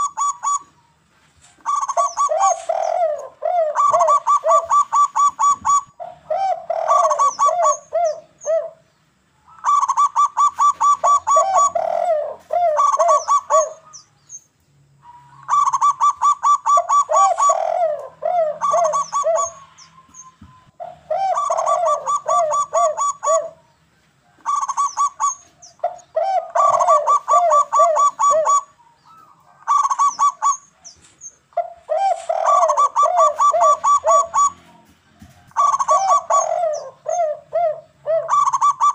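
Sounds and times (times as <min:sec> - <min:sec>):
doves cooing: 0:00.0 - 0:00.8, 0:01.5 - 0:08.9, 0:09.5 - 0:14.1, 0:15.0 - 0:38.9.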